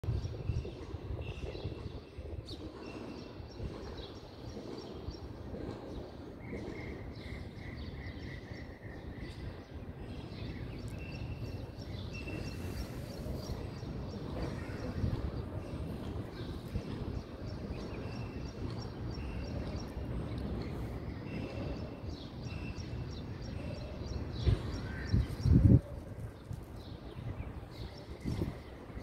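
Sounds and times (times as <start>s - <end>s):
birds chirping: 0.1s - 29.0s.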